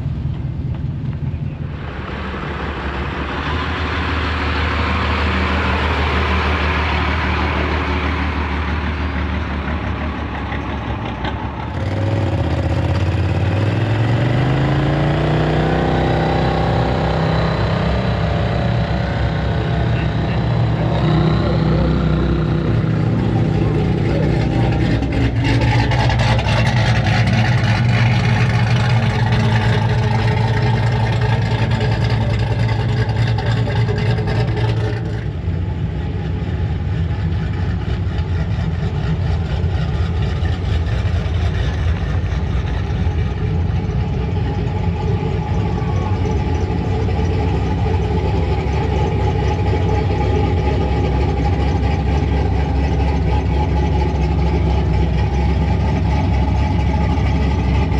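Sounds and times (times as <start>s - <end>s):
truck engines idling: 0.0s - 57.9s.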